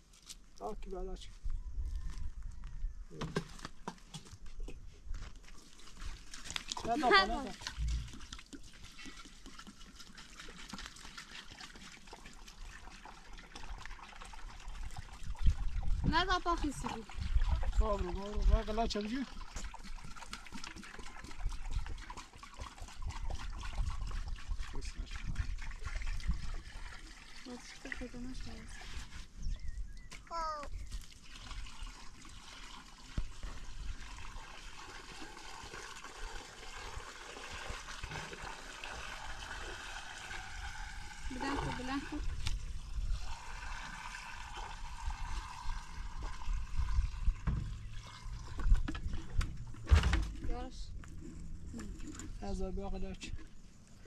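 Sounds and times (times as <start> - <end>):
water trickling and splashing: 3.3 - 54.0.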